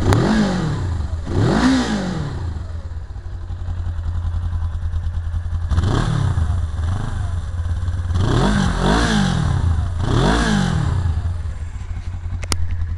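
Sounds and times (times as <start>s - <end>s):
motorcycle engine idling and revving: 0.0s - 12.9s.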